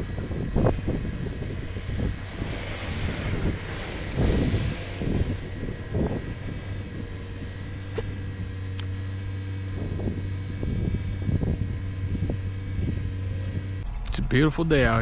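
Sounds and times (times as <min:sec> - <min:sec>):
vehicle engine humming: 0:00.0 - 0:13.8.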